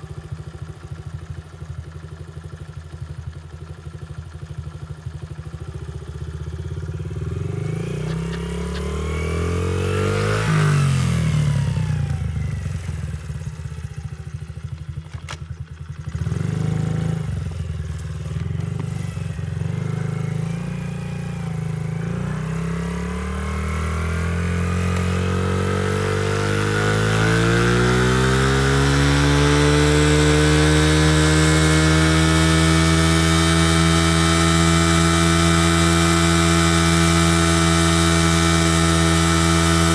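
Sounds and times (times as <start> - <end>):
motorbike engine revving: 5.6 - 39.9.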